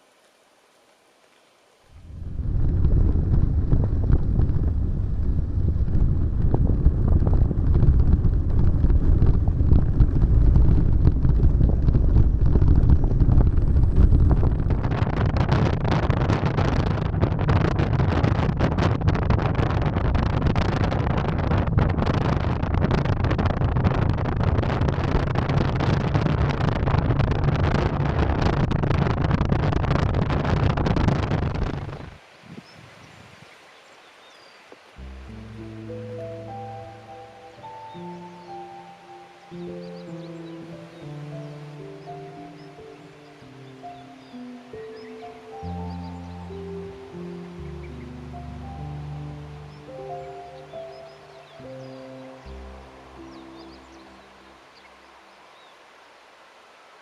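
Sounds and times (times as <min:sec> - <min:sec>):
wind buffeting microphone: 0:01.9 - 0:56.4.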